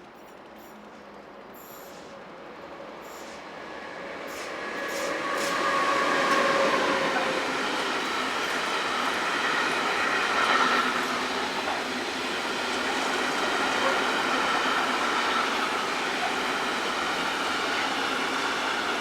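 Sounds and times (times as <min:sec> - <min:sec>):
train running: 0:00.0 - 0:19.0.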